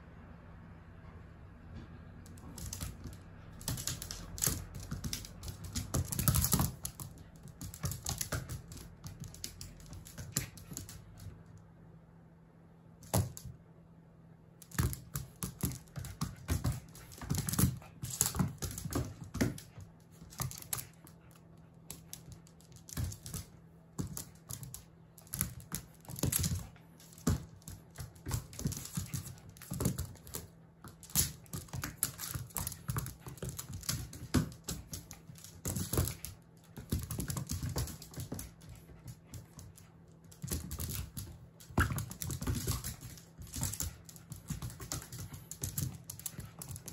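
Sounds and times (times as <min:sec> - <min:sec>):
puppy claws clicking on wood floor: 0:02.2 - 0:11.6, 0:14.6 - 0:46.9.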